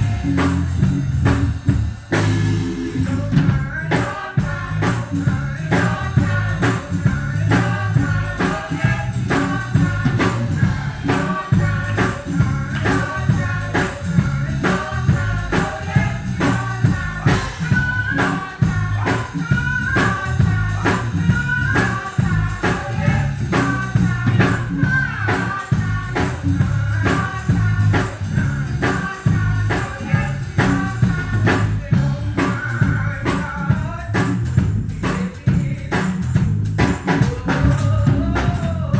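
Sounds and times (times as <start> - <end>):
people singing: 0.0 - 1.0, 2.1 - 36.3, 36.9 - 38.9
drum kit beat: 0.0 - 38.9
guitar: 0.0 - 38.9.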